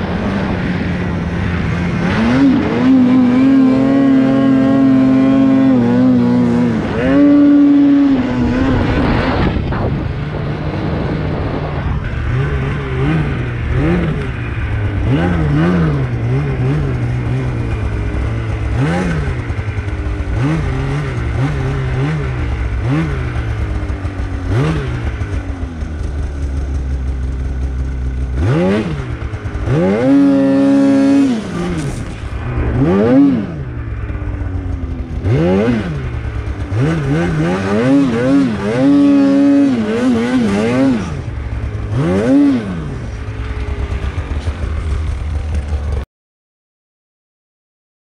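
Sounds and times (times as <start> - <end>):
snowmobile engine revving: 0.0 - 46.0.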